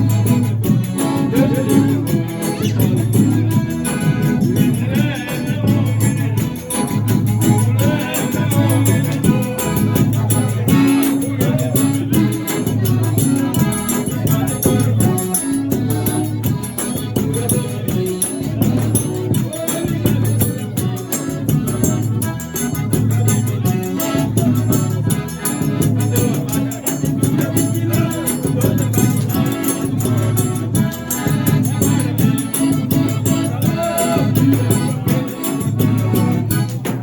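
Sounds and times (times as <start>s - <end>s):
fast high percussion rhythm: 0.0s - 37.0s
forro music playing loudly: 0.0s - 37.0s
strong bass: 0.0s - 37.0s.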